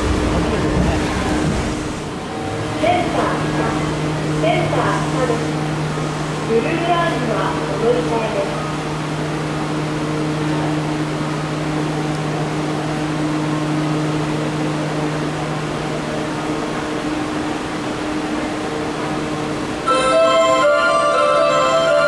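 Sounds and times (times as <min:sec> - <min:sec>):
subway train equipment humming: 0:00.0 - 0:22.0.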